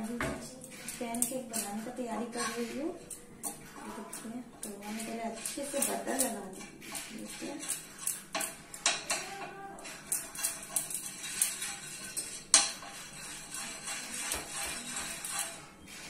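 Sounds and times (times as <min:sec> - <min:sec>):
utensil clinking on metal pan: 0:00.6 - 0:15.7.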